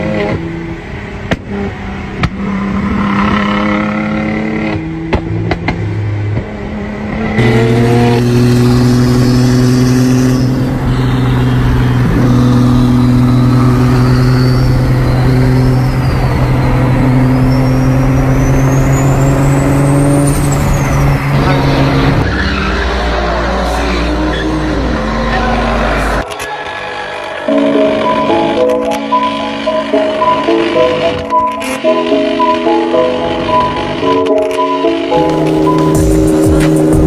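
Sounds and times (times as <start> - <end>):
car engine revving: 0.0 - 26.4, 27.3 - 37.0
sports car engine droning: 0.0 - 26.4, 29.2 - 37.0
tyres skidding: 0.0 - 37.0.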